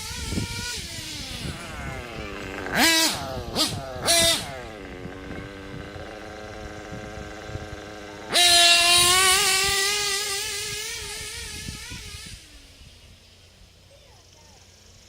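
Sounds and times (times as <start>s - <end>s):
rc truck engine whine: 0.0s - 15.0s.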